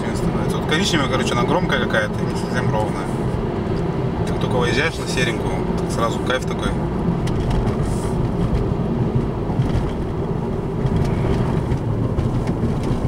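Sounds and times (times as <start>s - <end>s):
tyre and road rumble: 0.0s - 13.0s.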